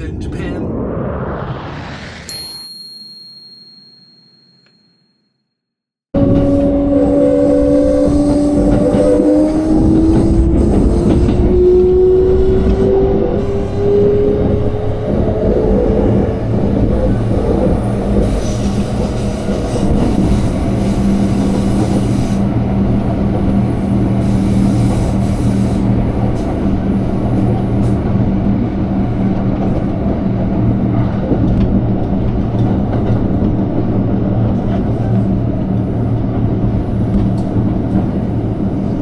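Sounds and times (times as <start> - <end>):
train wheels rumbling on rails: 6.2 - 39.0.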